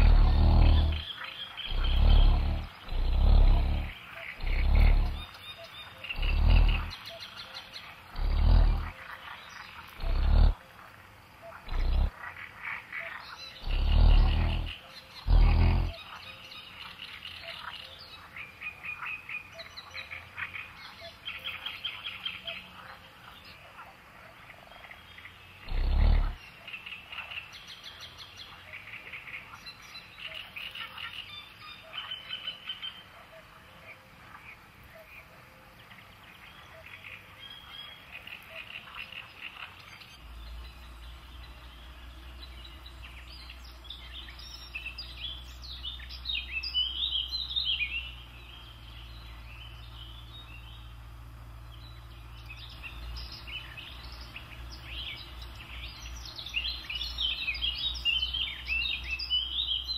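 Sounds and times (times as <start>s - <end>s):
small birds twittering: 0.0s - 59.9s.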